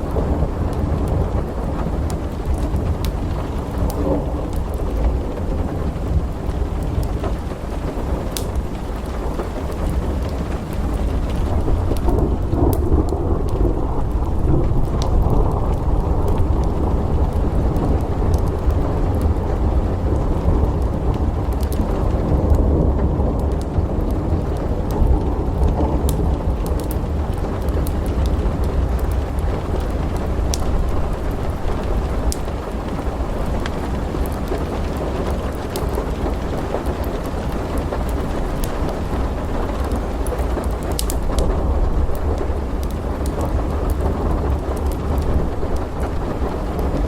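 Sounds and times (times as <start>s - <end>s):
steady rain: 0.0s - 47.0s
thunder rumbling: 0.0s - 47.0s
wood fire crackling: 0.0s - 47.0s.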